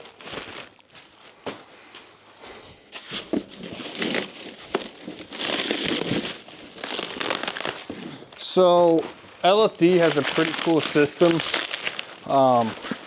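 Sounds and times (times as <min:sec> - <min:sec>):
packaging crinkling and rustling: 0:00.0 - 0:02.3, 0:03.0 - 0:13.0.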